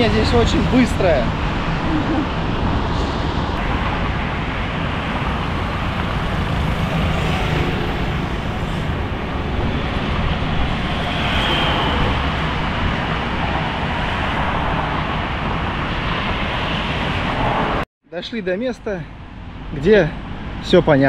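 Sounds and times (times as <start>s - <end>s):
highway traffic rumble: 0.0s - 21.0s.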